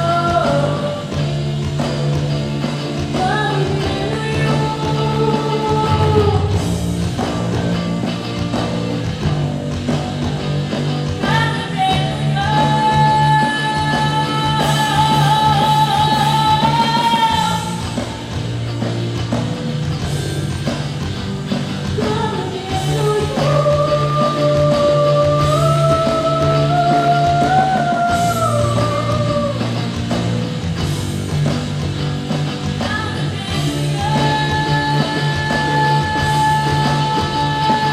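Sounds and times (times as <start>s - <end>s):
rock song with singer and band: 0.0s - 37.9s.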